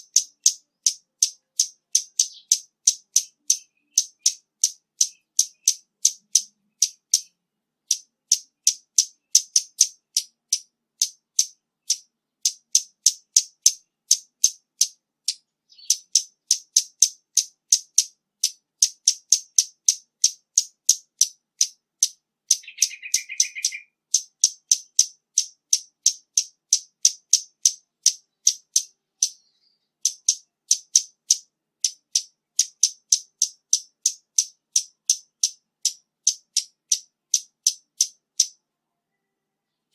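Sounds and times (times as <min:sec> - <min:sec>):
bird twittering: 0:00.0 - 0:20.4, 0:21.2 - 0:38.6
bird high ticking calls: 0:00.0 - 0:38.6.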